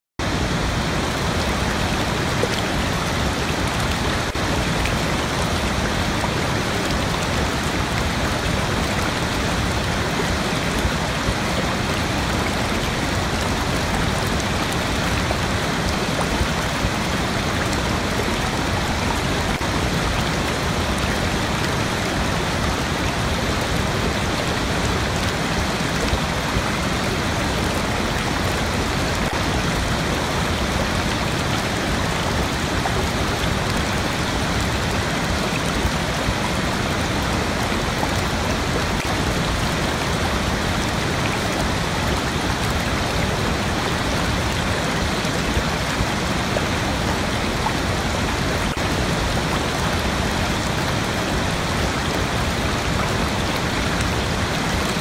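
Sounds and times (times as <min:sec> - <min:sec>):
waterfall rushing: 0:00.2 - 0:55.0.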